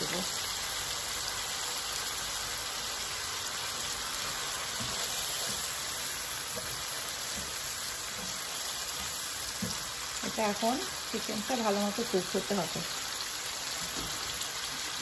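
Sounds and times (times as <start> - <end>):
food sizzling in hot fat: 0.0 - 15.0.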